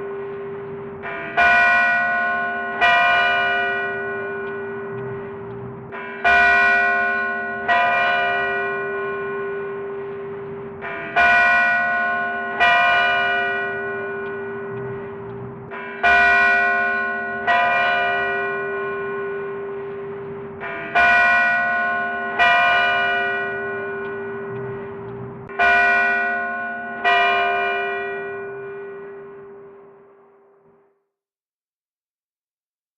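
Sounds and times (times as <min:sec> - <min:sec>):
large bell striking: 0:00.0 - 0:30.8
low bell hum: 0:00.0 - 0:30.8.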